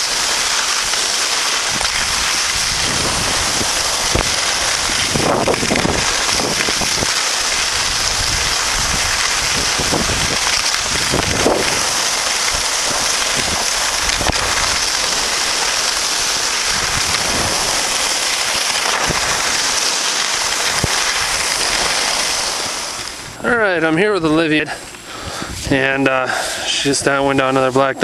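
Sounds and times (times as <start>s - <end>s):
skis sliding over snow: 0.0s - 23.6s
wind rushing over microphone: 1.6s - 27.6s.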